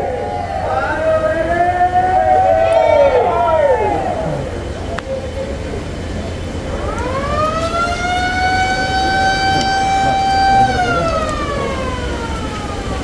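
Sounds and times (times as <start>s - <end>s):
motor-driven siren wailing: 0.0s - 4.8s, 6.7s - 13.0s.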